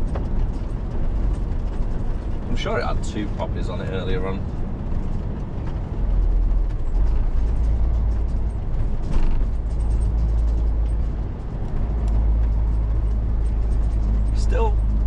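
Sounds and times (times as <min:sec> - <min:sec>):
cab creaks and rattles: 0:00.0 - 0:15.0
truck engine and road rumble: 0:00.0 - 0:15.0.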